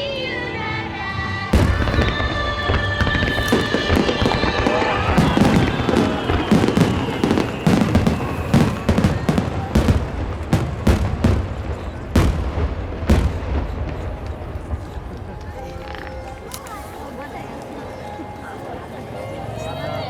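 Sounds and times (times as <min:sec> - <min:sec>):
show music: 0:00.0 - 0:19.2
fireworks bursting: 0:01.2 - 0:17.6.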